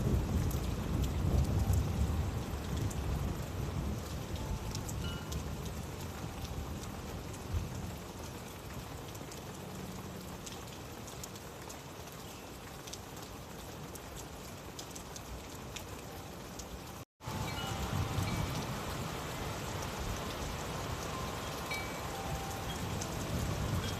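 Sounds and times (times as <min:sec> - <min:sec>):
raindrop ticks: 0:00.0 - 0:18.9, 0:19.6 - 0:23.9
steady rain falling: 0:00.0 - 0:23.9.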